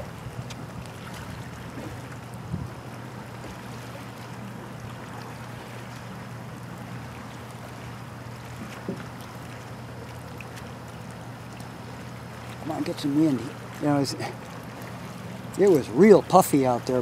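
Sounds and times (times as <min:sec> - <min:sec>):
lapping water: 0:00.0 - 0:17.0
light breeze: 0:00.0 - 0:17.0.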